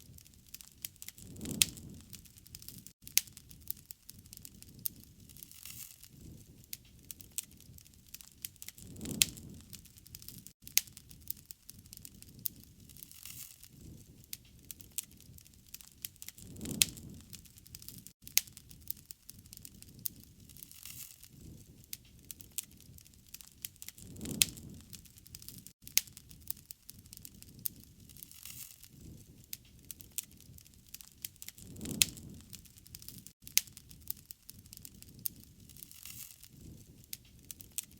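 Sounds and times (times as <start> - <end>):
campfire crackles and pops: 0.0 - 37.9
low rumble of flame: 0.0 - 37.9.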